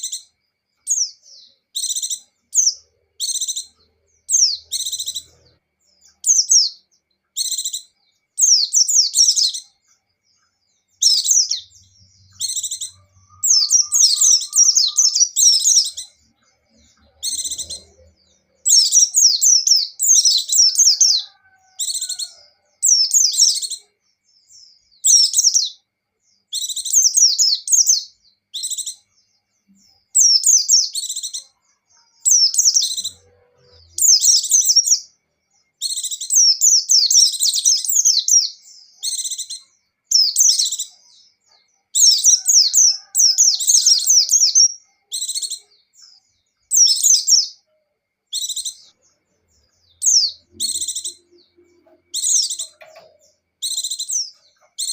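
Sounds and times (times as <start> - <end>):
birds twittering: 0.0 - 54.9.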